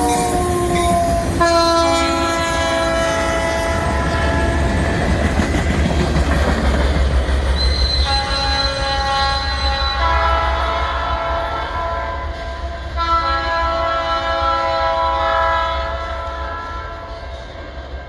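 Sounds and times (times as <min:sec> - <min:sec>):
train air horn blasts: 0:00.0 - 0:05.4, 0:07.6 - 0:18.0.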